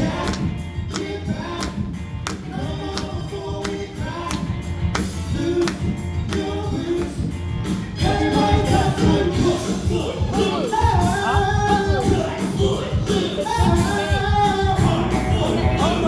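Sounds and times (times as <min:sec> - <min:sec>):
driving drum beat: 0:00.0 - 0:16.0
group vocals: 0:00.0 - 0:16.0
live band playing: 0:00.0 - 0:16.0.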